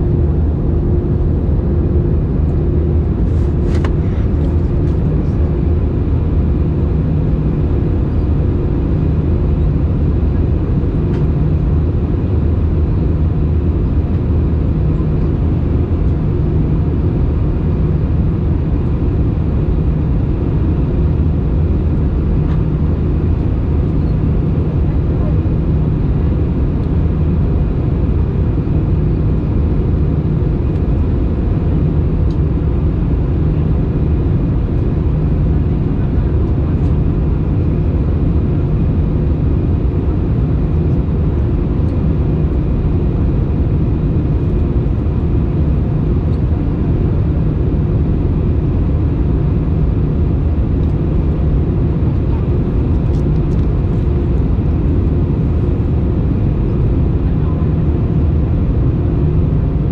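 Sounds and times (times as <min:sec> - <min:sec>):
jet engine drone: 0:00.0 - 0:59.9.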